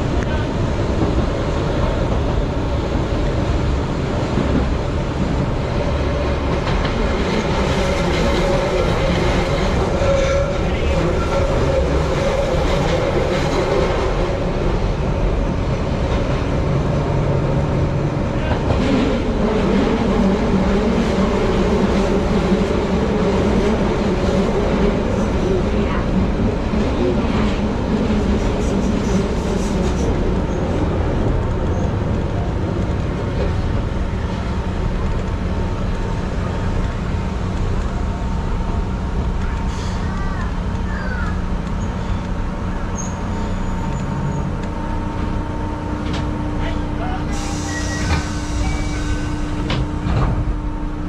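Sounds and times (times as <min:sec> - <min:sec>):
train wheels rumbling on rail: 0:00.0 - 0:51.0
train motor hum: 0:00.1 - 0:51.0.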